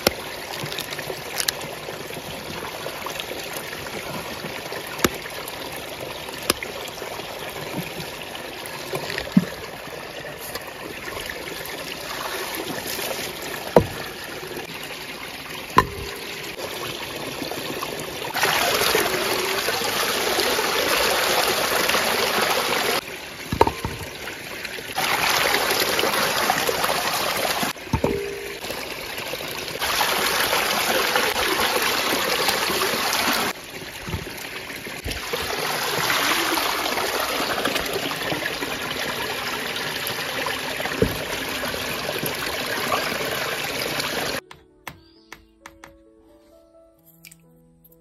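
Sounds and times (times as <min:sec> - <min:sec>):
water running from pipe: 0:00.0 - 0:44.4.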